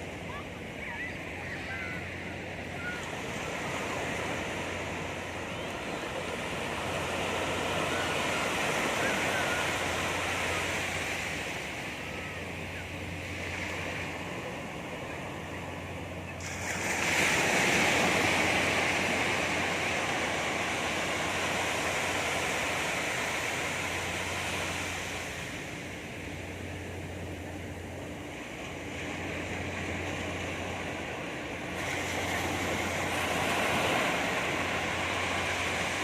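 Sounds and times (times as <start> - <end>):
sea surf washing onto beach: 0.0 - 36.0.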